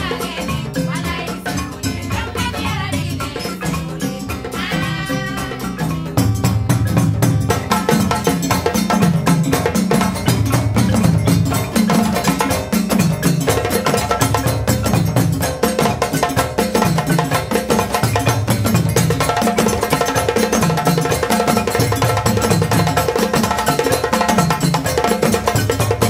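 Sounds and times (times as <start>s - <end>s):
fast dense percussion: 0.0s - 26.0s.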